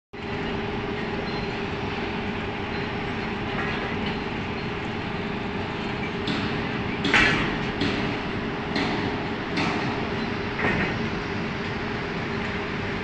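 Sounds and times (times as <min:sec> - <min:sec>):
industrial machinery drone: 0:00.2 - 0:13.0.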